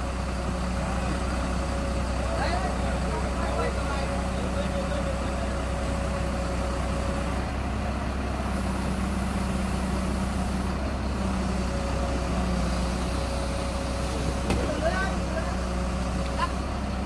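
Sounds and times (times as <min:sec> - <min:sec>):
heavy crane engine running: 0:00.0 - 0:17.0.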